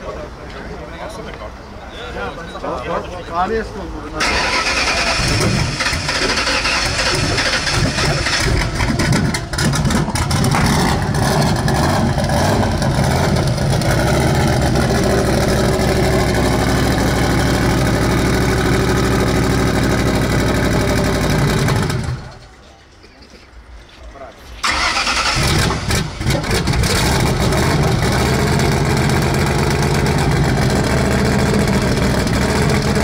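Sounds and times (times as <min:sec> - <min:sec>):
car engine idling: 0:04.2 - 0:22.6, 0:24.6 - 0:33.0.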